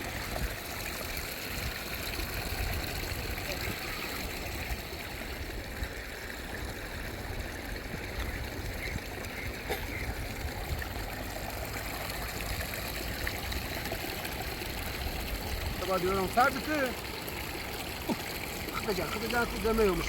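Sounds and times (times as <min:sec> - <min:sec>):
running water flowing: 0:00.0 - 0:20.0.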